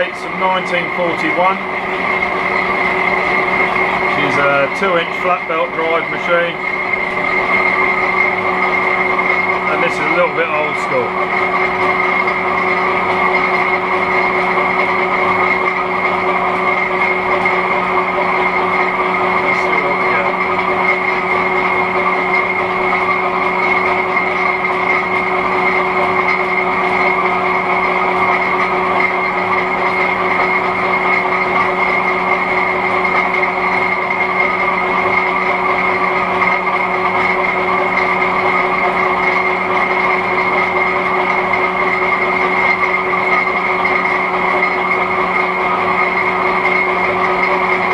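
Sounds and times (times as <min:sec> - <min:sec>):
metal lathe running: 0:00.0 - 0:47.9.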